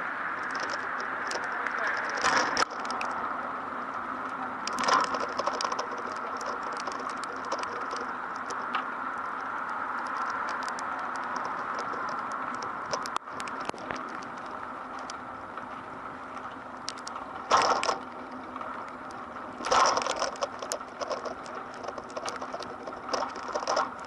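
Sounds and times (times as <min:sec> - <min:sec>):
rain pattering: 0:00.0 - 0:24.0.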